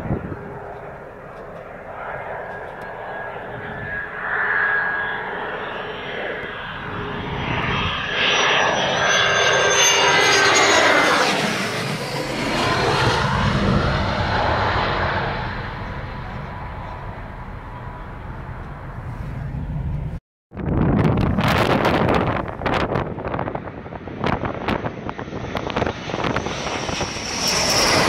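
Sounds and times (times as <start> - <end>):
fighter jet roar passing overhead: 0.0 - 28.0.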